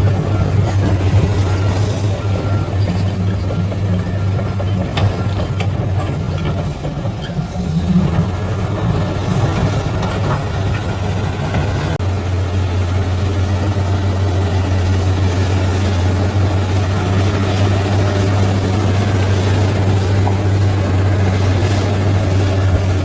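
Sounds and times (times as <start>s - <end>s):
bulldozer diesel engine drone: 0.0s - 23.0s.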